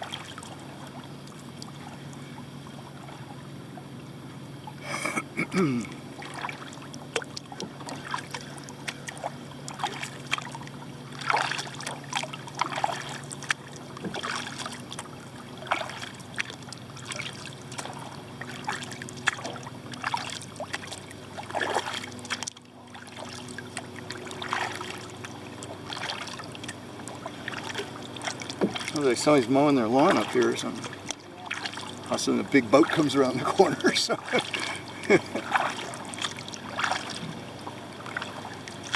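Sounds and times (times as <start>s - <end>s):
water trickling off paddle: 0.0s - 4.8s, 5.6s - 38.9s
kayak paddle splashes: 0.0s - 38.9s
steady engine drone: 0.0s - 38.9s.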